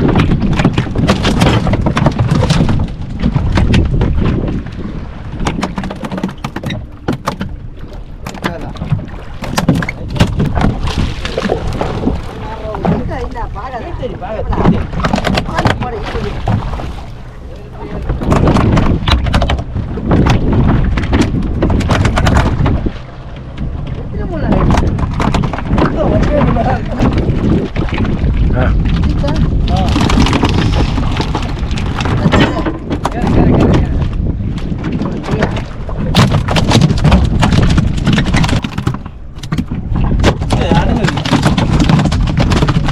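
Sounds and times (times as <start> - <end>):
loud knocks and thumps: 0.0 - 4.6, 5.4 - 7.6, 8.2 - 13.2, 14.5 - 16.9, 18.0 - 23.0, 24.4 - 42.9
steady low rumble: 6.8 - 42.9.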